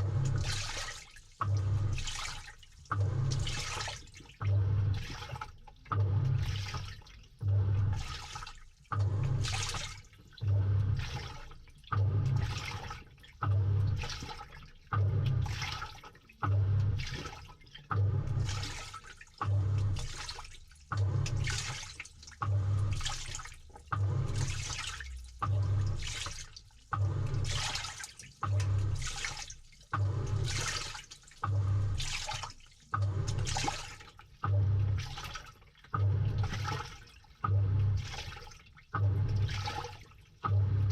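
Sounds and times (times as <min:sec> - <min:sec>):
washing machine motor hum: 0:00.0 - 0:40.9
water sloshing through clothes: 0:00.0 - 0:40.9.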